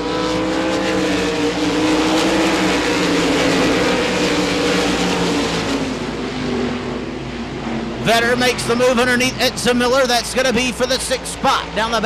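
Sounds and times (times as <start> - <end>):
race car engines at high revs: 0.0 - 12.0.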